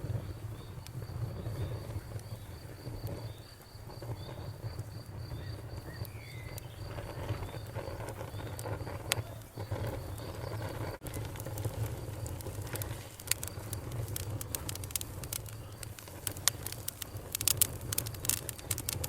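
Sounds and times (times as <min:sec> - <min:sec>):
crackling fire: 0:00.0 - 0:19.0
crickets chirping: 0:00.0 - 0:19.0
fire popping: 0:00.0 - 0:19.0.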